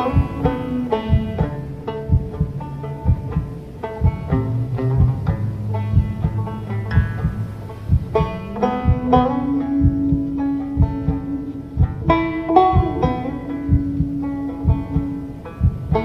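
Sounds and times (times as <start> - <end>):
held low note: 0.0 - 16.0
plucked banjo notes: 0.0 - 16.0.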